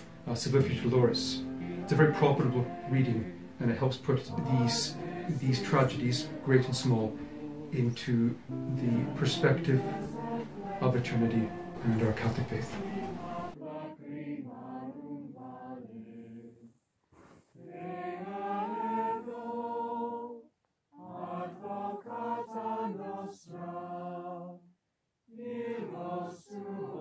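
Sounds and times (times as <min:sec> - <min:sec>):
voices singing a chant: 0:00.0 - 0:16.7, 0:17.6 - 0:24.6, 0:25.3 - 0:27.0.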